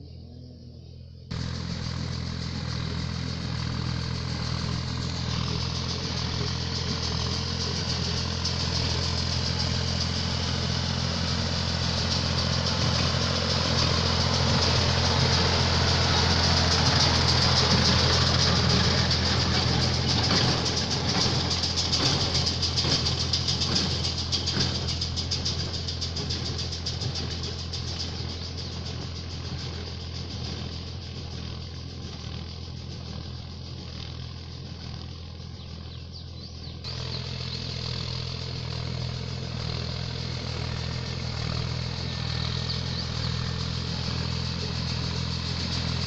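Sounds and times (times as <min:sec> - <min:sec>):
tractor engine running: 0:01.2 - 0:46.0
baler mechanical clatter: 0:01.3 - 0:46.0.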